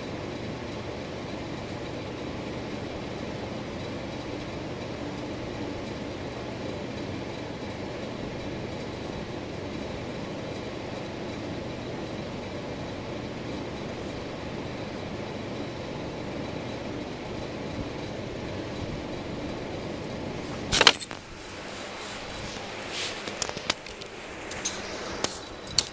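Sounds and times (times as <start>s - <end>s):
ceiling fan blades whooshing: 0.0s - 25.9s
faint high whine: 0.0s - 25.9s
low motor hum: 0.0s - 25.9s.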